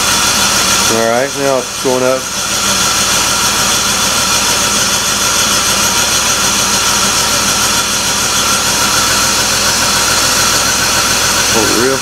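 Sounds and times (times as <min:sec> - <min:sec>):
engine cranking over: 0:00.0 - 0:12.0.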